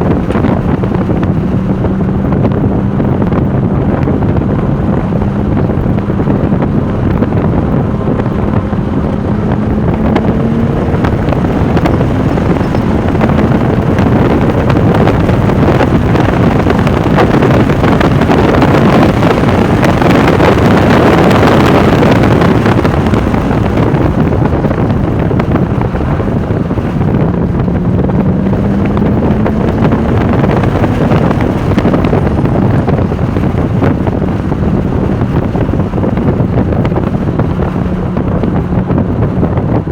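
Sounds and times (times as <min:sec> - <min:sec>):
car engine under load: 0:00.0 - 0:39.9
wind and road noise: 0:00.0 - 0:39.9.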